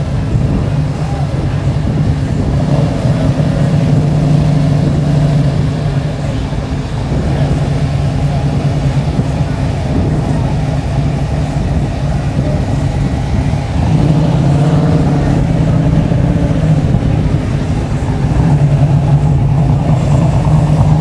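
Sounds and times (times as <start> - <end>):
car and truck engines idling: 0.0 - 21.0.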